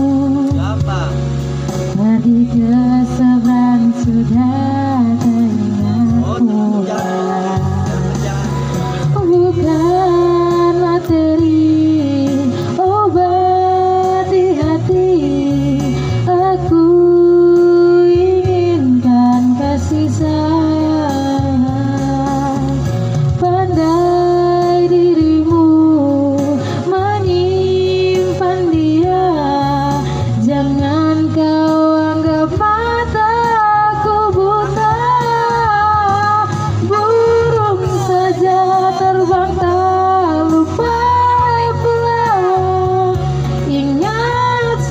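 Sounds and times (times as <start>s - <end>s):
woman singing: 0.0s - 0.8s, 1.9s - 44.9s
backing music: 0.0s - 44.9s
instrumental accompaniment: 0.0s - 44.9s.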